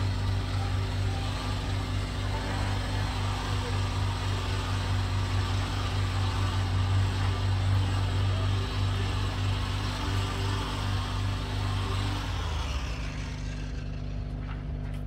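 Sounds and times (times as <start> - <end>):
steady engine-like hum: 0.0 - 15.0.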